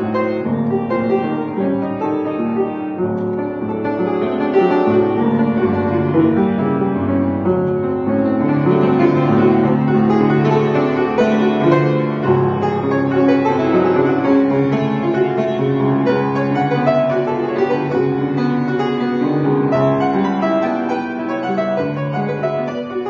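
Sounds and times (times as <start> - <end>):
upright piano playing: 0.0 - 23.0.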